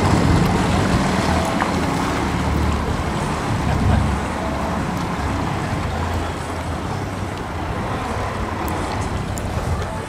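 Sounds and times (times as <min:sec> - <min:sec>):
boat engine rumbling: 0:00.0 - 0:10.0
wind noise on microphone: 0:00.0 - 0:10.0.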